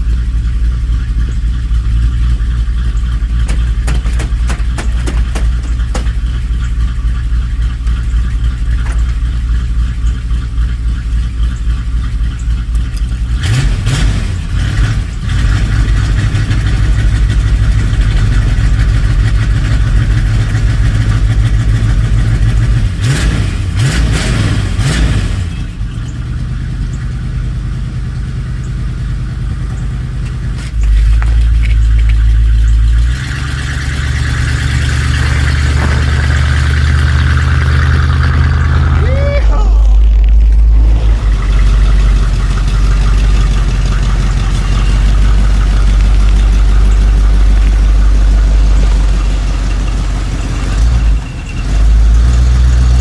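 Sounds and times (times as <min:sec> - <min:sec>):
vehicle engine revving: 0:00.0 - 0:53.0.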